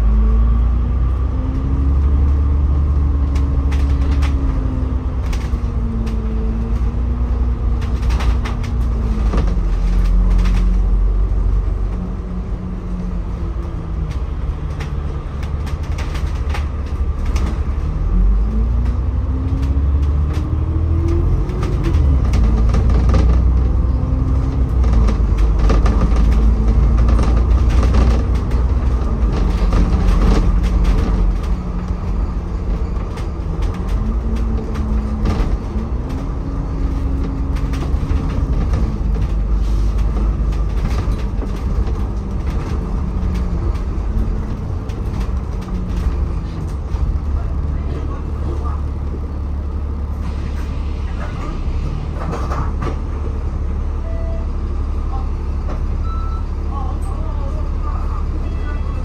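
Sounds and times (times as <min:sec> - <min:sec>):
bus body rattles and clicks: 0:00.0 - 0:59.0
bus engine: 0:00.0 - 0:59.0
low road rumble: 0:00.0 - 0:59.0.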